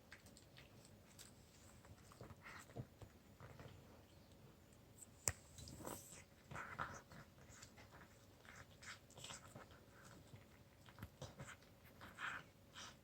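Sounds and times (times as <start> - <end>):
cat chewing and licking meat: 0.0 - 13.0.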